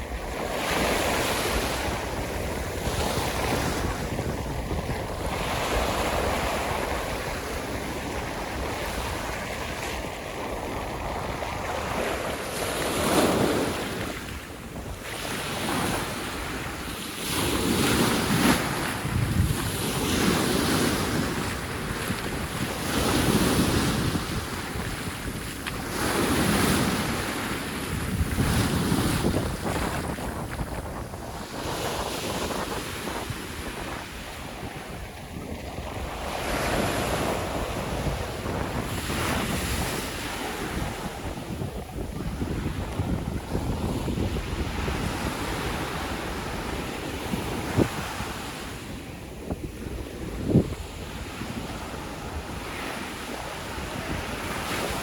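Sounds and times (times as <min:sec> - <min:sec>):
sea waves breaking on beach: 0:00.0 - 0:55.0
wind rumbling on microphone: 0:00.0 - 0:55.0.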